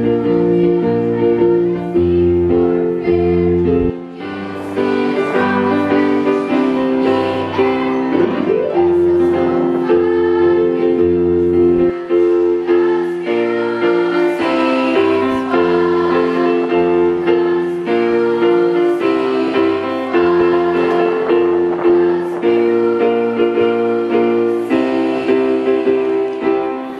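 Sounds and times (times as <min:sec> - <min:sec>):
girls' choir singing: 0:00.0 - 0:26.9
instrumental accompaniment: 0:03.0 - 0:26.9.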